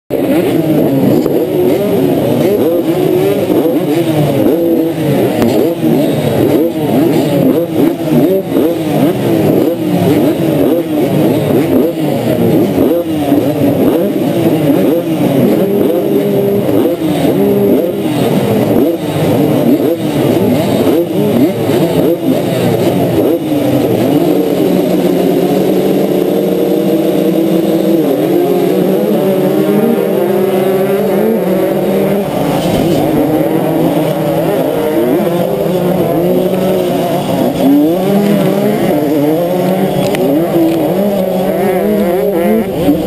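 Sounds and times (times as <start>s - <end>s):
motocross bikes revving: 0.1s - 43.0s.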